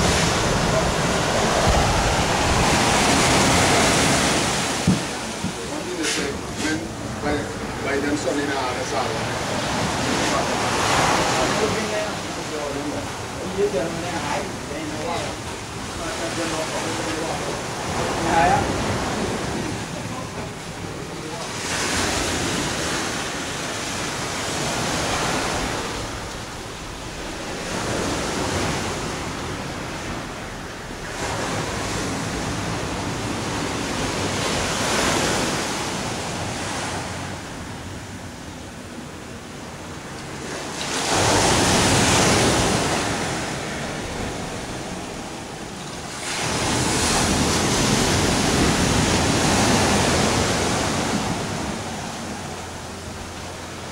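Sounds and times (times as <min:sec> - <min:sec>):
ocean surf washing onto beach: 0:00.0 - 0:53.9.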